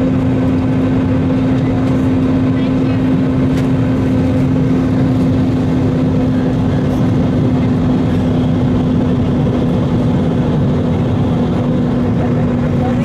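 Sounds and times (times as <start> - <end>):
engine and airflow rush: 0.0 - 13.0
steady low hum: 0.0 - 13.0.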